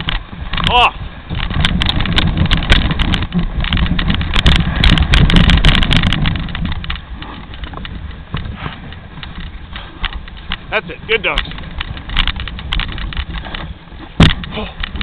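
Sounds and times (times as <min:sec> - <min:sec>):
sled rattling: 0:00.0 - 0:15.0
sled runners scraping on snow: 0:00.0 - 0:15.0.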